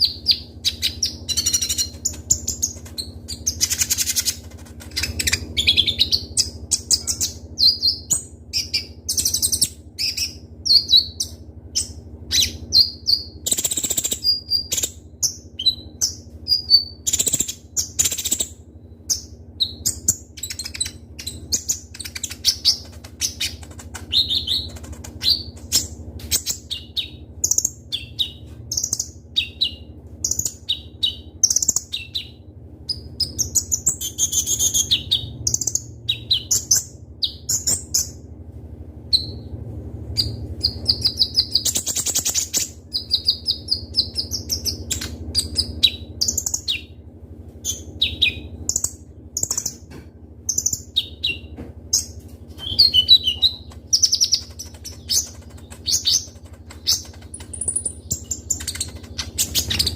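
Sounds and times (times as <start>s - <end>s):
bird chirping and trilling: 0.0s - 38.2s, 39.1s - 47.0s, 47.6s - 59.9s
steady low hum: 0.0s - 59.9s.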